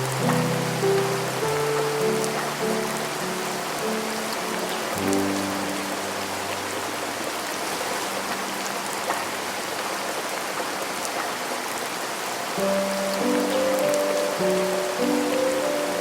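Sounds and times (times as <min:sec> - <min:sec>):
piano notes: 0:00.0 - 0:11.3, 0:12.5 - 0:16.0
rain falling: 0:00.0 - 0:16.0.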